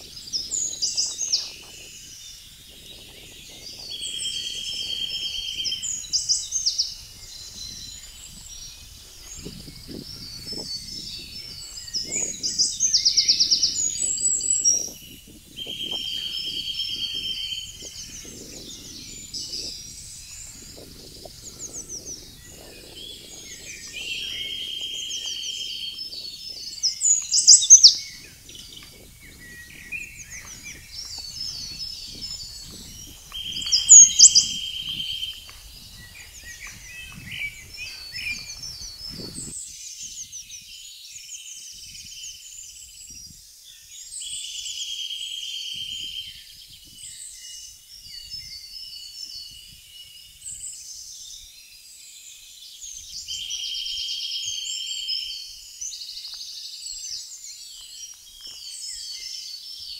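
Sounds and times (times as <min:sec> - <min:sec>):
loud high sweeping birdsong: 0:00.0 - 0:59.9
songbirds singing: 0:00.0 - 0:59.9.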